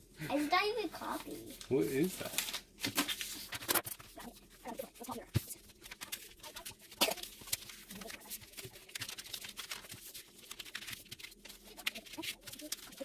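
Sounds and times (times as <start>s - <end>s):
paper clicks and crinkling: 1.0s - 13.0s.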